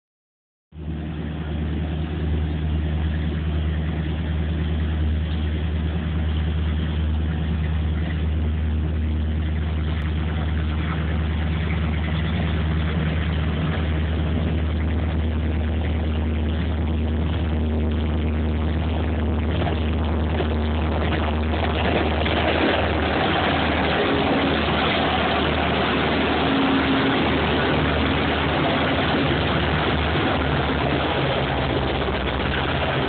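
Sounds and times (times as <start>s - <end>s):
diesel locomotive engine idling: 0.8s - 33.0s.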